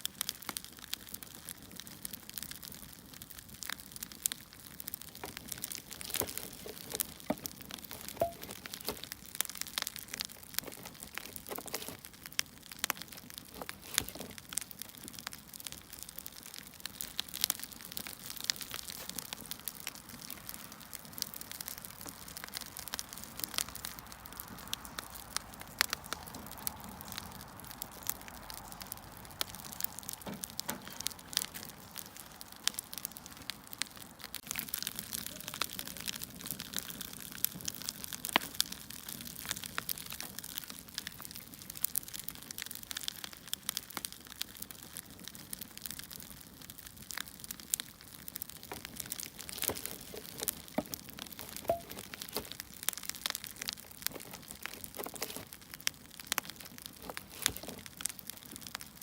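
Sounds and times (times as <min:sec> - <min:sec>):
firewood crackling: 0:00.0 - 0:59.0.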